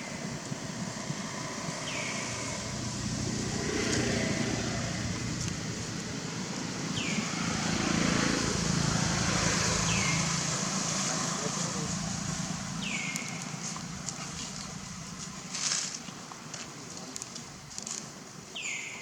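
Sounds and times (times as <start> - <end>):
low rumble of passing vehicles: 0.0 - 19.0.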